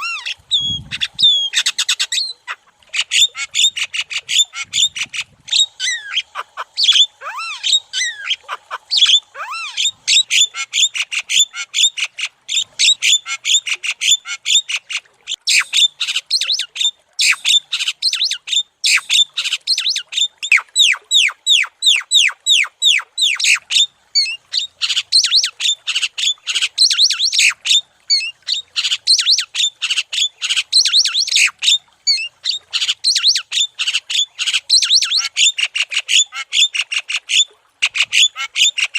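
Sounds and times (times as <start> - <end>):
bird chattering song: 0.0 - 14.3, 15.5 - 35.4.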